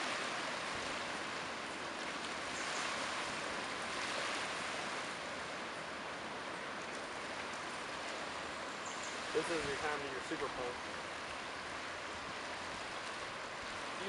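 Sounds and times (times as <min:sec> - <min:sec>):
surf washing on sandy beach: 0:00.0 - 0:14.0.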